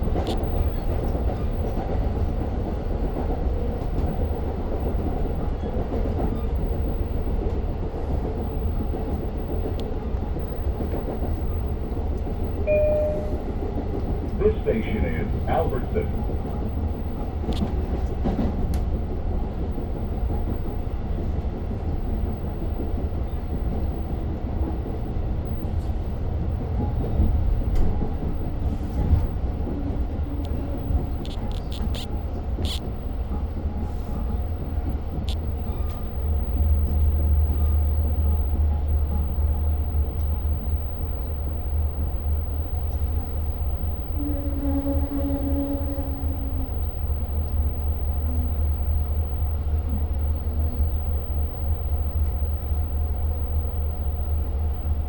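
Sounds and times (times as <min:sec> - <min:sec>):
train rumble inside coach: 0:00.0 - 0:55.0.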